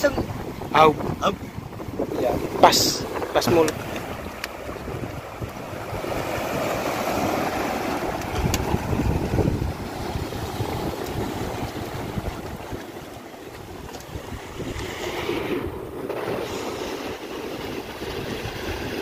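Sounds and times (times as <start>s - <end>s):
surf through breakwater blocks: 0.0s - 19.0s
wind on microphone: 0.0s - 19.0s.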